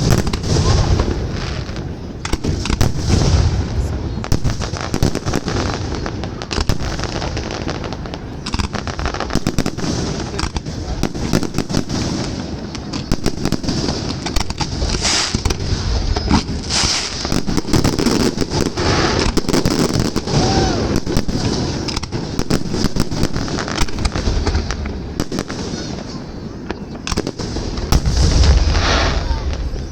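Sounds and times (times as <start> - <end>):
fireworks bangs and crackling: 0.0 - 29.9.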